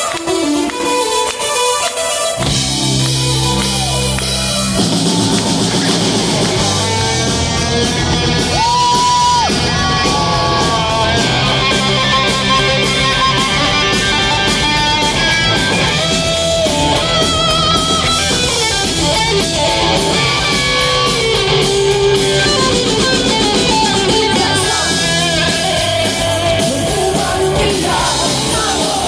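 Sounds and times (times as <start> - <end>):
bass guitar: 0.0 - 29.0
drum kit: 0.0 - 29.0
electric guitar lead: 0.0 - 29.0.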